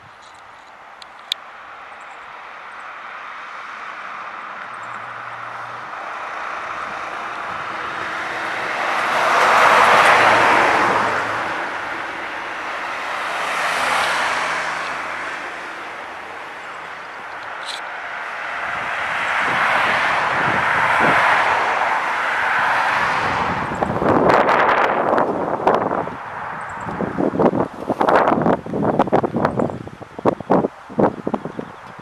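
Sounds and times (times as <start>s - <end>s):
vehicles passing: 0.0s - 32.0s.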